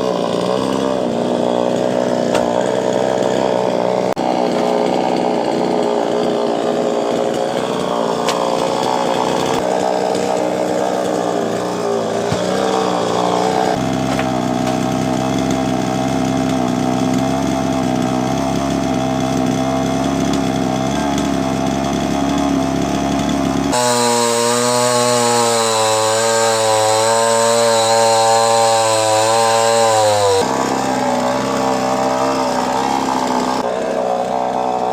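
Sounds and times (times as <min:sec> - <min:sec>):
chainsaw cutting at high revs: 0:00.0 - 0:34.9.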